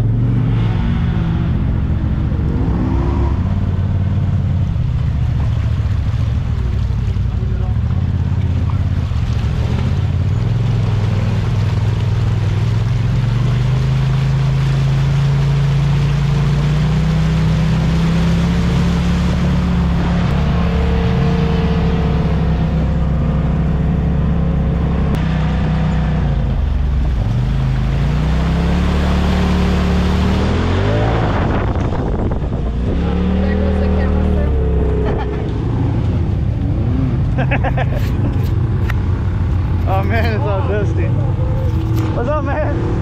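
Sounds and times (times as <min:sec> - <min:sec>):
off-road vehicle engine revving: 0:00.0 - 0:43.0.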